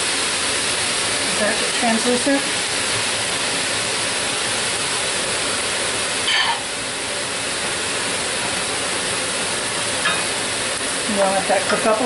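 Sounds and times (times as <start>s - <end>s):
meat and onion sizzling in oil: 0.0s - 12.0s.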